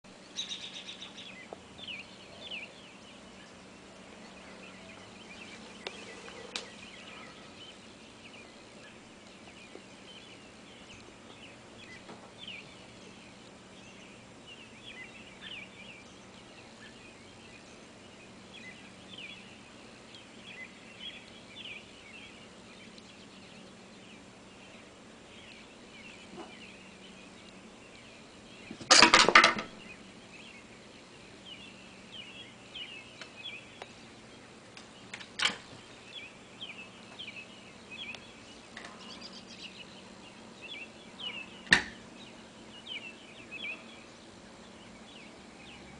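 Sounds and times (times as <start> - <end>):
faint steady hum: 0.1 - 45.9
small birds chirping: 0.1 - 45.9.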